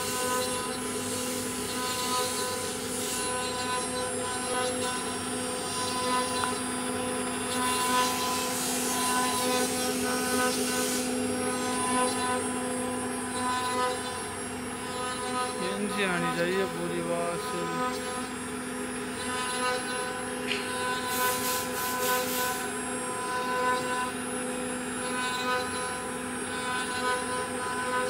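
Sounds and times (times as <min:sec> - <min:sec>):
router bit cutting wood: 0:00.0 - 0:28.0
router spindle whine: 0:00.0 - 0:28.0.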